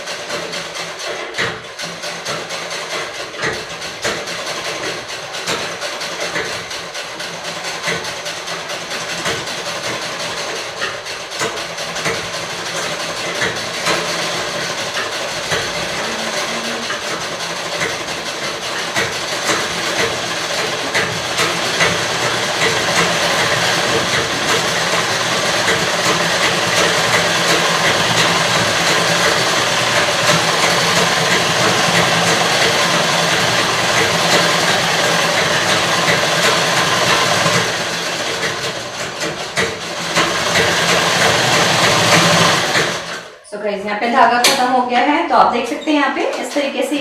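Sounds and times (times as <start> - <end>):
treadle sewing machine clattering: 0.0 - 43.4.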